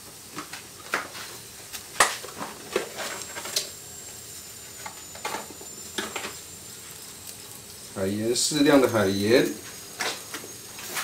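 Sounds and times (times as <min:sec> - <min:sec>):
vegetables sizzling in grill pan: 0:00.0 - 0:11.0.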